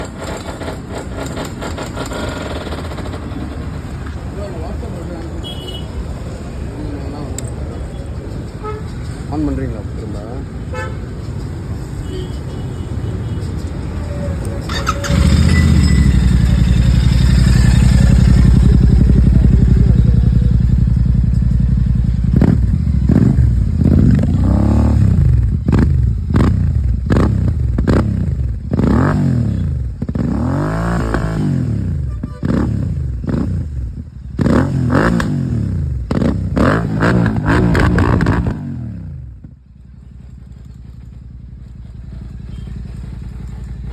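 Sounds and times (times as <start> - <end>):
motorcycle engine revving: 0.0 - 6.6, 8.1 - 43.9.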